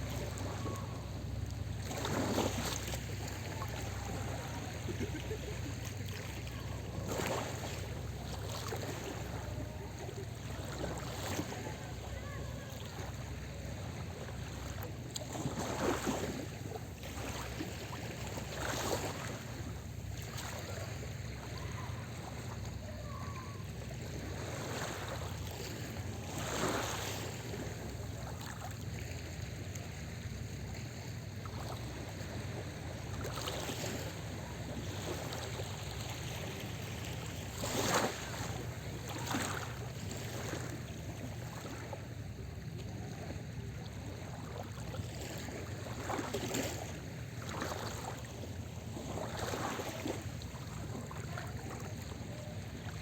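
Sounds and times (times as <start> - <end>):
small waves washing ashore: 0.0 - 53.0.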